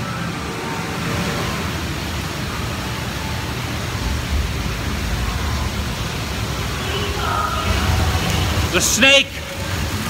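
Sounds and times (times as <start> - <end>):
boat ride rushing noise: 0.0 - 10.0
low rumble: 0.6 - 8.7.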